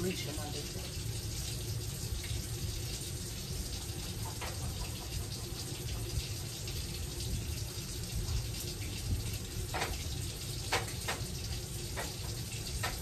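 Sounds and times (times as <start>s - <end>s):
water running from a tap: 0.0s - 13.0s.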